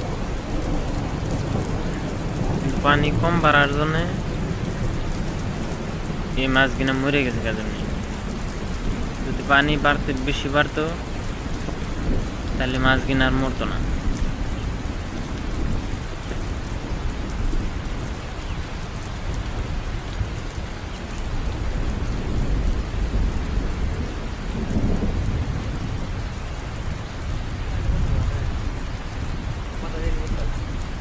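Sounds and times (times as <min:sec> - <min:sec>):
wind buffeting microphone: 0:00.0 - 0:10.2, 0:10.9 - 0:31.0.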